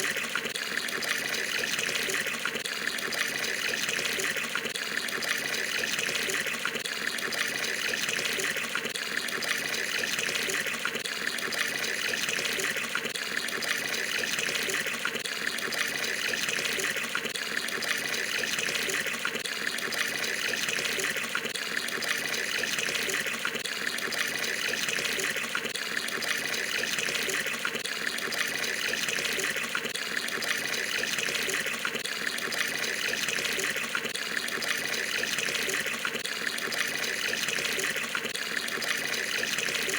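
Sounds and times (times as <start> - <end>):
tap water gushing into tub: 0.0 - 39.9.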